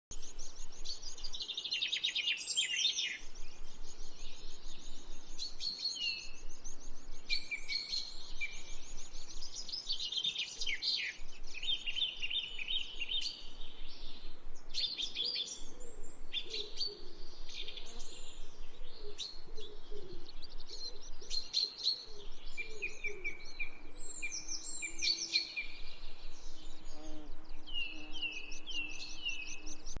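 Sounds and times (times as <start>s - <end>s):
birds chirping and singing: 0.1s - 30.0s
lower bird calls: 0.1s - 30.0s.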